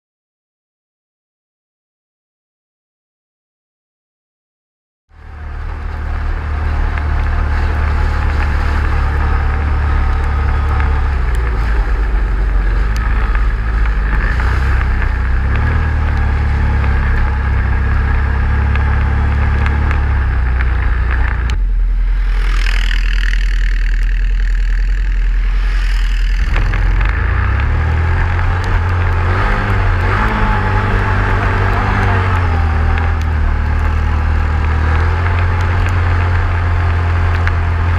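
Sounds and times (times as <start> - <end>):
off-road vehicle engine rumble: 5.1 - 37.9.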